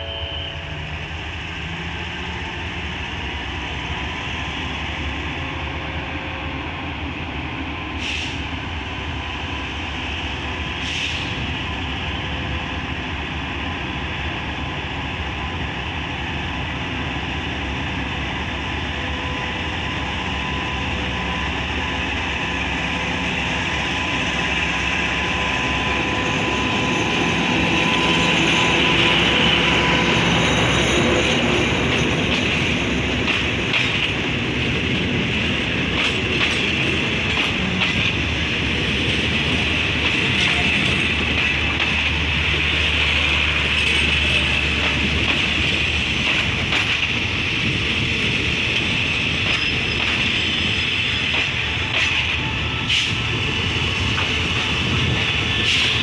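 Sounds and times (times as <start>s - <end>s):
passenger train rolling past: 0.0s - 56.0s.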